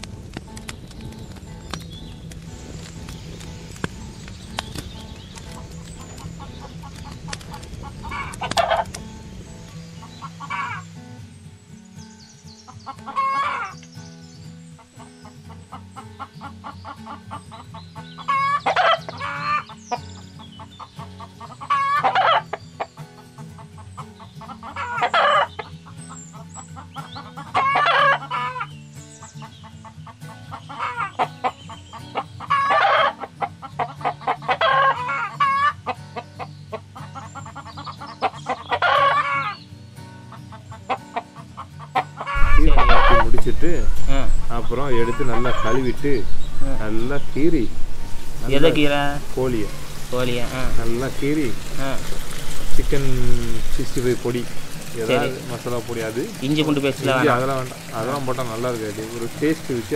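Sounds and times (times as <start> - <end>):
background music with bass: 0.0 - 59.9
chickens clucking and crowing: 5.1 - 11.0, 12.5 - 13.8, 14.8 - 53.7, 54.3 - 56.3.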